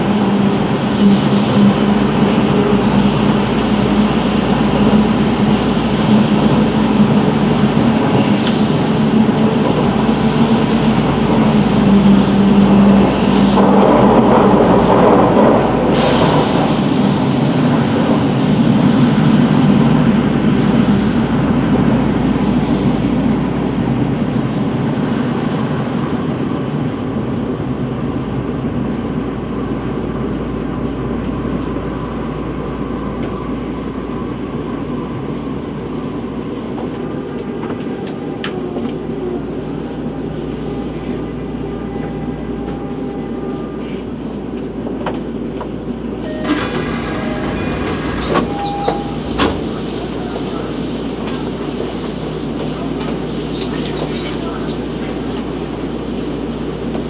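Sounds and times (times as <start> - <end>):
subway train interior rumble: 0.0 - 57.0.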